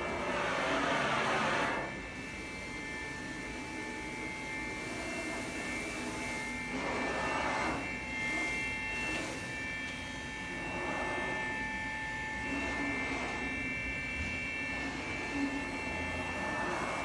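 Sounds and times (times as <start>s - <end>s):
faint high machine whines: 0.0s - 17.0s
shop machinery whirring: 0.0s - 17.0s.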